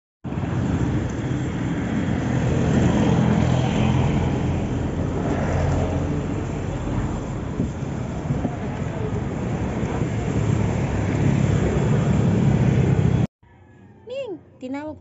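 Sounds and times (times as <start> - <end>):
vehicle engine and road noise: 0.2 - 13.8.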